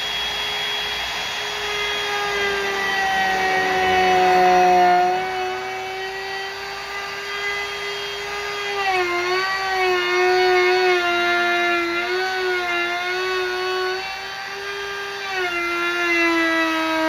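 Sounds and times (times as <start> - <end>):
electric router cutting wood: 0.0 - 17.0.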